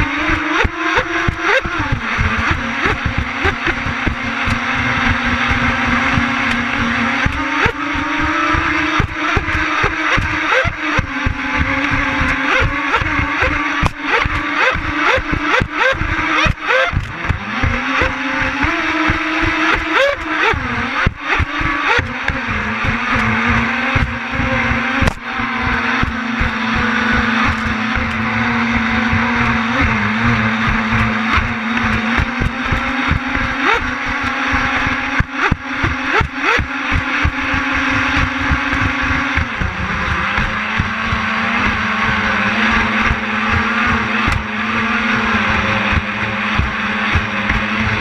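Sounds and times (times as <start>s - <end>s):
electric motors whining: 0.0s - 48.0s
knocks and crackles: 0.0s - 48.0s.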